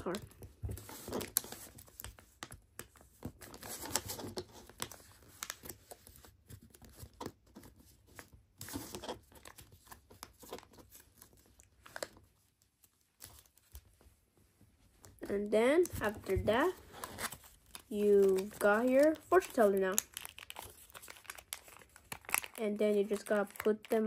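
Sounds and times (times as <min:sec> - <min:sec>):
paper crinkling and crackling: 0:00.0 - 0:14.1, 0:15.0 - 0:24.0.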